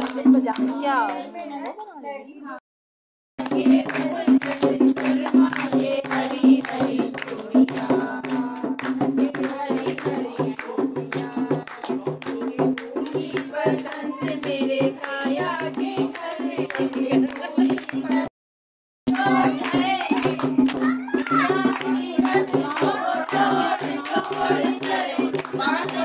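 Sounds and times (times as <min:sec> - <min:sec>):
hand drum playing quick rhythm: 0:00.0 - 0:01.2, 0:03.4 - 0:18.3, 0:19.1 - 0:26.0
women singing folk songs: 0:00.0 - 0:01.6, 0:03.4 - 0:18.3, 0:19.1 - 0:20.5, 0:21.3 - 0:26.0.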